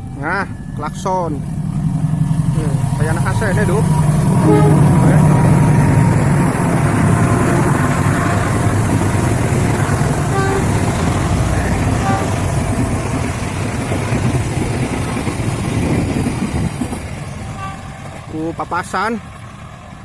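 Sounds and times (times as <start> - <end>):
passing train rumbling: 0.0 - 20.0.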